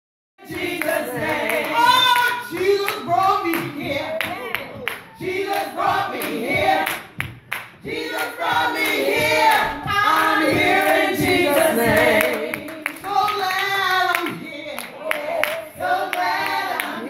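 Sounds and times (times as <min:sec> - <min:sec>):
woman singing gospel song: 0:00.4 - 0:07.2, 0:07.8 - 0:17.0.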